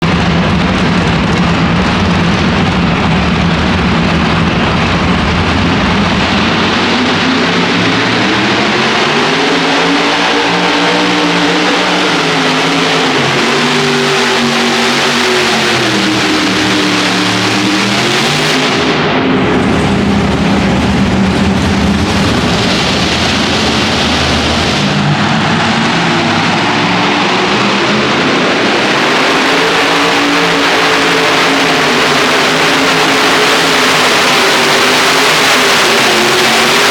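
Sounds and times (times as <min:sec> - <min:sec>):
tractor engines at full power: 0:00.0 - 0:36.9.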